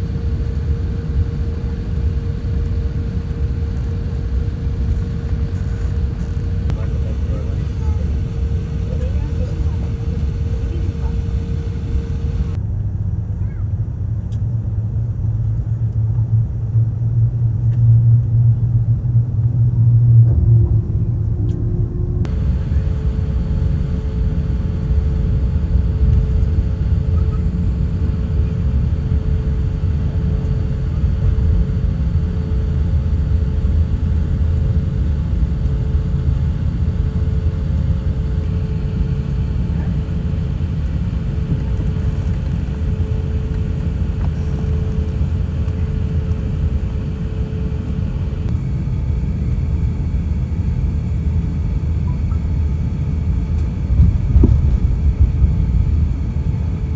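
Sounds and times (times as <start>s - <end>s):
steady hum: 0.0s - 12.6s, 22.2s - 56.9s
airliner cabin engine rumble: 0.0s - 56.9s.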